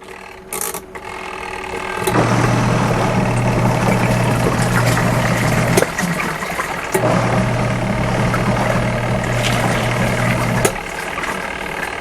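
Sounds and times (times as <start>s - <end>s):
washing machine motor humming: 1.6s - 12.0s
laundry water churning: 1.7s - 12.0s.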